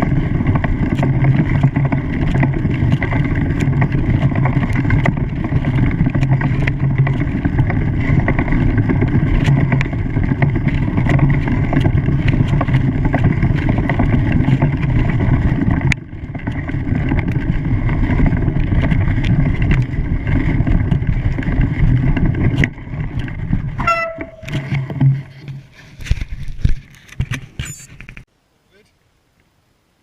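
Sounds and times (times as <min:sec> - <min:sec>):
engine running: 0:00.0 - 0:27.7.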